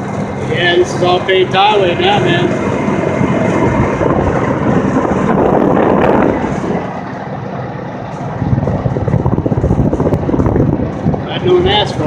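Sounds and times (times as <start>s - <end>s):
road noise: 0.0s - 12.0s
wind on microphone: 0.0s - 12.0s.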